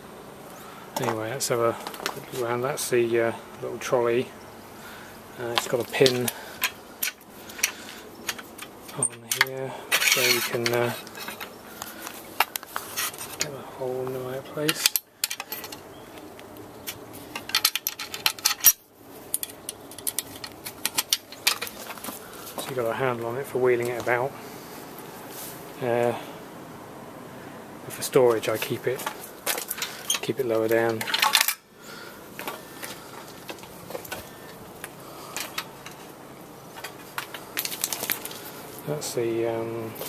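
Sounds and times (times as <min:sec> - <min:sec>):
low steady hiss: 0:00.0 - 0:40.0.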